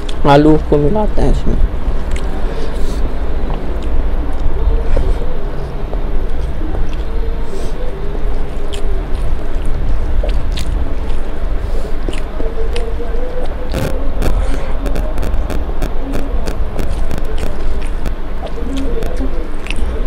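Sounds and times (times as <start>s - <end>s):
mouth chewing: 0.0s - 0.7s, 1.9s - 20.0s
low rumble: 1.3s - 18.5s
fingers mixing food on steel plate: 2.0s - 20.0s.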